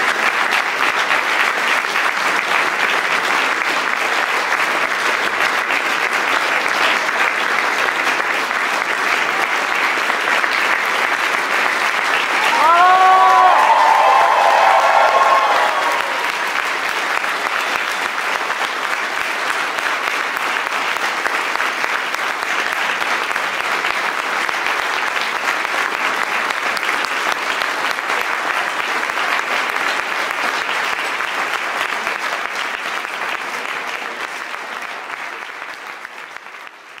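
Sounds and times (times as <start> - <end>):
audience applauding: 0.0 - 37.0.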